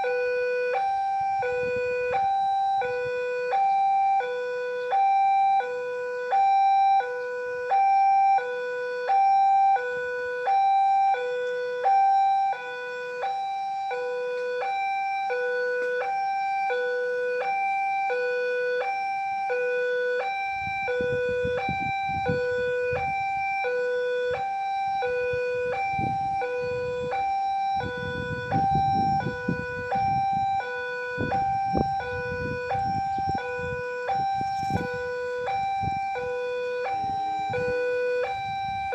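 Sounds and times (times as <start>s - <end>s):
level crossing two-tone alarm: 0.0s - 38.9s.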